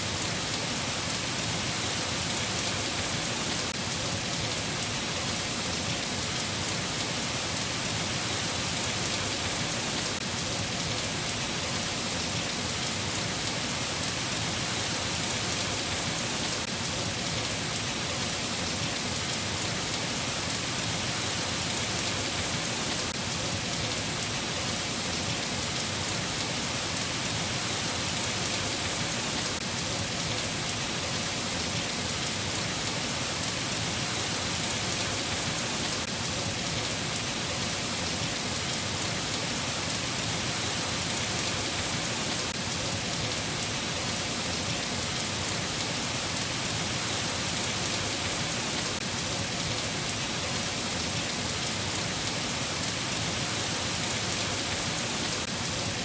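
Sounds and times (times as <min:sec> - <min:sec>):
steady rainfall patter: 0:00.0 - 0:56.0.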